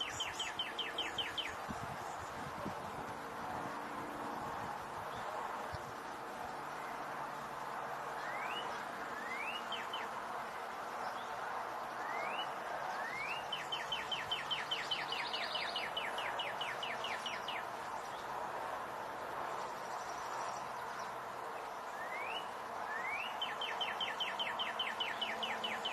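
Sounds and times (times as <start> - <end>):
steady background hiss: 0.0 - 25.9.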